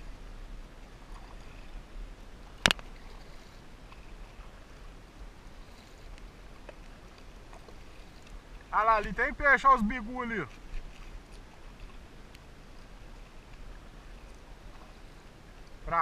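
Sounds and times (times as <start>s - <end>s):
paddle splashing in water: 0.0s - 15.9s.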